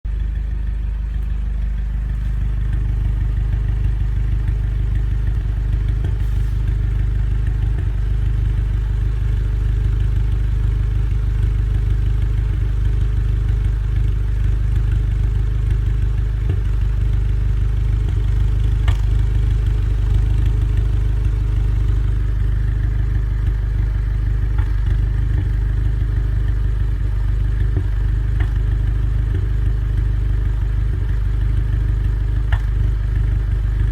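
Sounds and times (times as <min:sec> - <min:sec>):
car engine idling and misfiring: 0:00.0 - 0:33.9.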